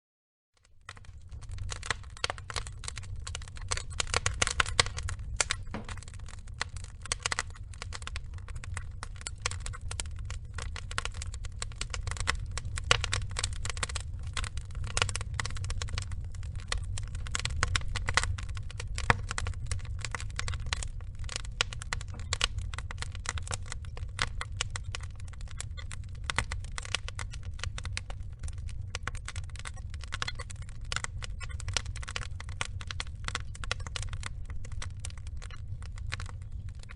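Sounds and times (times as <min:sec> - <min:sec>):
burning logs crackling: 0:00.6 - 0:36.9
steady low rumble: 0:00.9 - 0:36.9.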